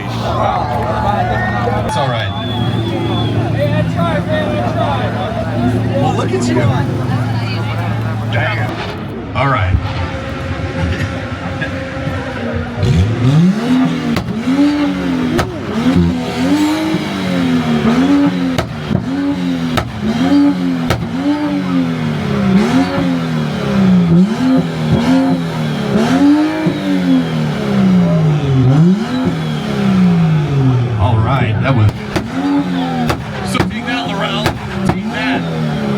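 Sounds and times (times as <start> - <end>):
car engine revving hard: 0.0 - 9.2, 9.8 - 35.9
exhaust pops: 1.6 - 35.9.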